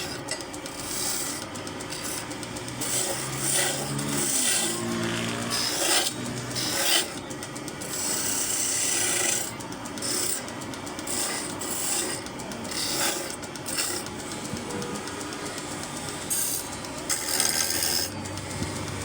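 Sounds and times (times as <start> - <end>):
rasping abrasive tool on wood: 0.0 - 18.9.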